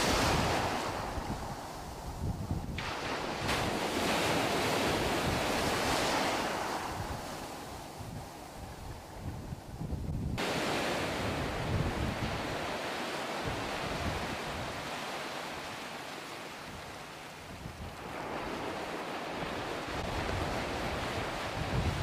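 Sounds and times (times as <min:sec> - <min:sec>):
wind buffeting microphone: 0:00.0 - 0:15.8, 0:16.6 - 0:22.0.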